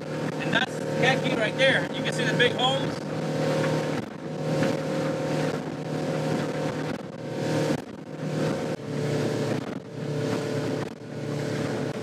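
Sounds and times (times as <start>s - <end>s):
boat engine running steadily: 0.0s - 12.0s
water and wind rushing: 0.0s - 12.0s.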